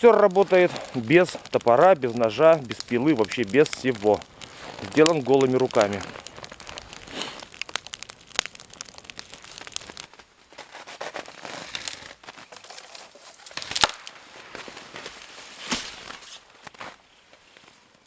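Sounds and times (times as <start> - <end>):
loud wood pops: 0.0 - 17.0
dry wood crackling and snapping: 0.0 - 18.0.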